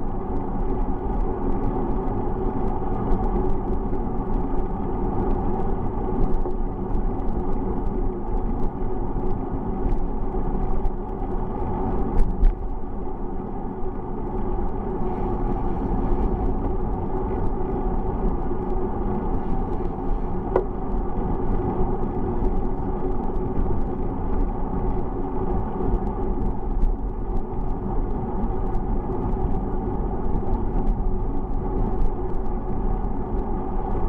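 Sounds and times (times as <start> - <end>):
bicycle road rumble: 0.0 - 34.0
wind: 0.0 - 34.0.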